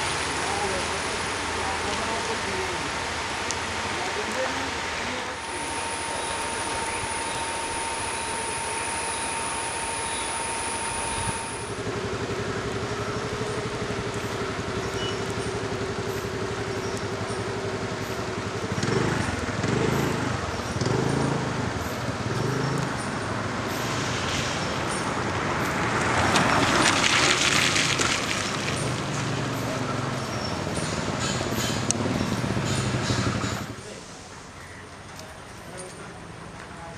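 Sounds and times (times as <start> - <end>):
vehicle passing hiss: 0.0 - 34.8
car engines running slowly: 0.0 - 36.9.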